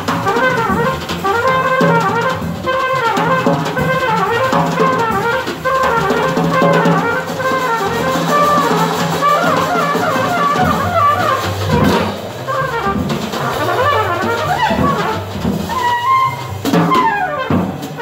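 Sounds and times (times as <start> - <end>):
drum kit with cymbals: 0.0 - 18.0
trumpet playing quick notes: 0.0 - 18.0.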